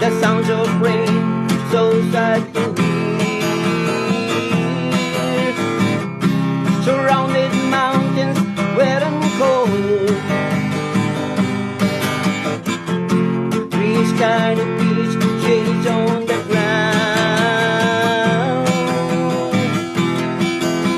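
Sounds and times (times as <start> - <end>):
acoustic guitar strumming chords: 0.0 - 20.9.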